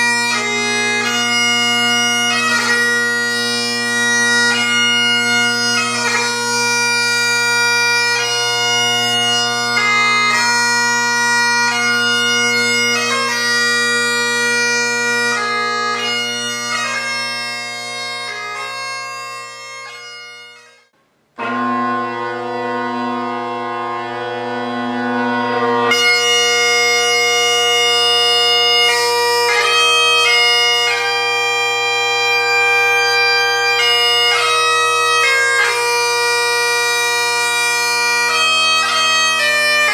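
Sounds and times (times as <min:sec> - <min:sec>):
bagpipe tune over drone: 0:00.0 - 0:20.8, 0:21.4 - 0:39.9.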